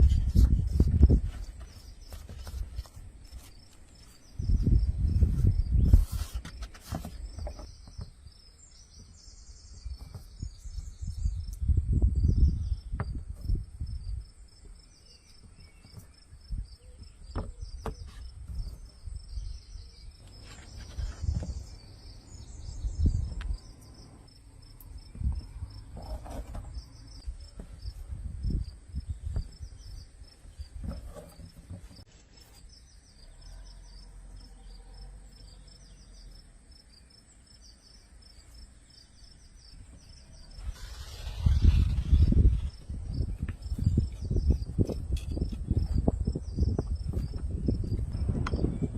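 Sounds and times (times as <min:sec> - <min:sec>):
insects chirping: 0:00.4 - 0:48.9.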